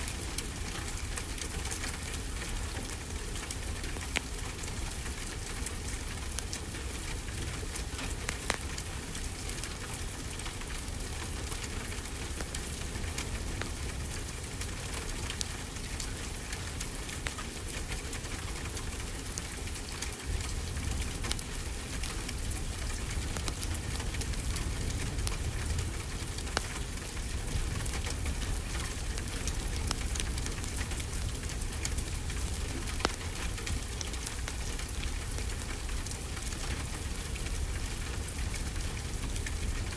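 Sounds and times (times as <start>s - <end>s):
steady rainfall hiss: 0.0s - 39.9s
wood fire crackling: 0.0s - 39.9s.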